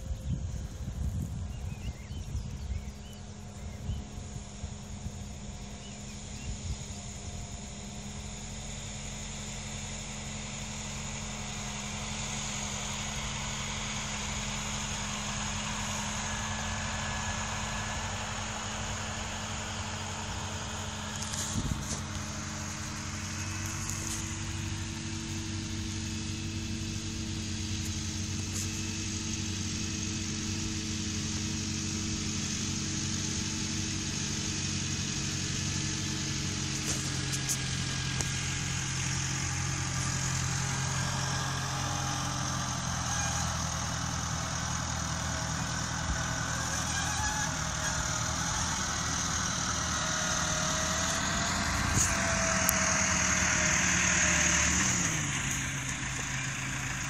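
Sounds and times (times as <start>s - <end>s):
faint whine: 0.0s - 54.6s
diesel engine running: 0.0s - 57.0s.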